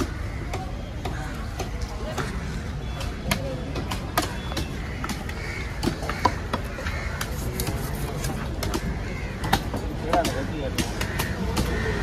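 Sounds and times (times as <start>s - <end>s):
crows cawing: 0.0s - 2.8s, 4.6s - 12.0s
murmur of voices: 0.0s - 12.0s.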